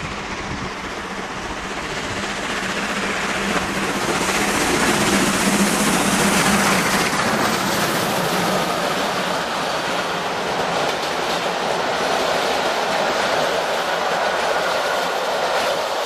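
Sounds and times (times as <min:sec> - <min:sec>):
steam locomotive passing: 0:00.0 - 0:16.0
train coaches rolling past: 0:00.0 - 0:16.0.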